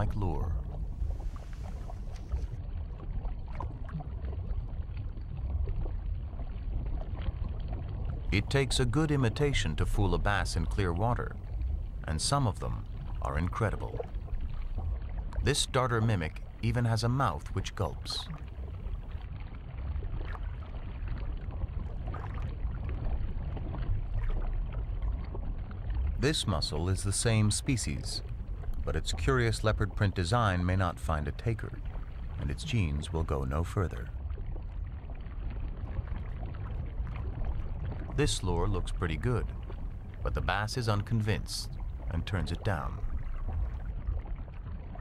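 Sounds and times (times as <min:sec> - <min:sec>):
faint ticks and crackles: 0:00.0 - 0:45.0
underwater rumble of moving water: 0:00.0 - 0:45.0.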